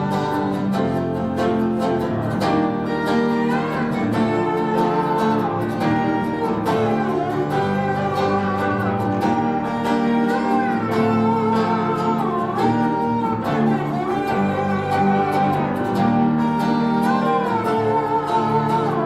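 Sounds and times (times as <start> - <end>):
acoustic guitar strumming: 0.0 - 19.0
sliding melody line: 0.0 - 19.0.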